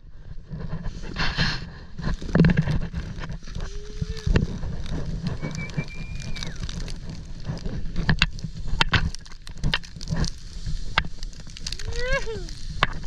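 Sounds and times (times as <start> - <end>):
snowboard riding through powder: 0.0 - 13.0
wind rumbling on microphone: 0.0 - 13.0
snow crunching cracks: 0.4 - 13.0.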